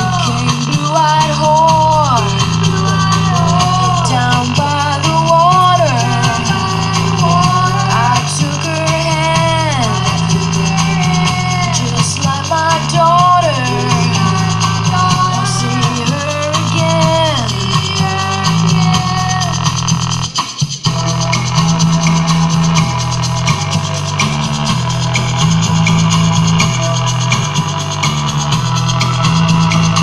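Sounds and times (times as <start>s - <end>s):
bass guitar: 0.0s - 30.0s
drums: 0.0s - 30.0s
electric guitar: 0.0s - 30.0s
person singing: 0.0s - 30.0s
rock song: 0.0s - 30.0s.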